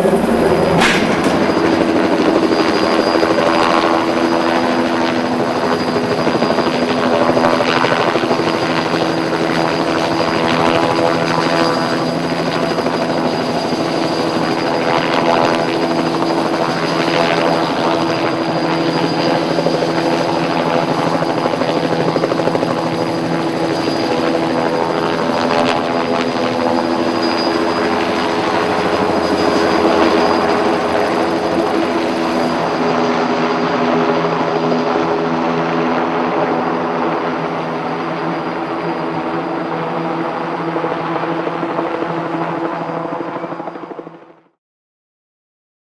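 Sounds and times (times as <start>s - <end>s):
helicopter hovering: 0.0s - 44.2s.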